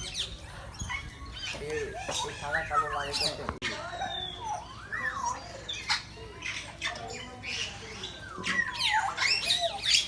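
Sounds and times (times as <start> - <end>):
parrots squawking: 0.0 - 10.0
parrots whistled calls: 0.0 - 10.0.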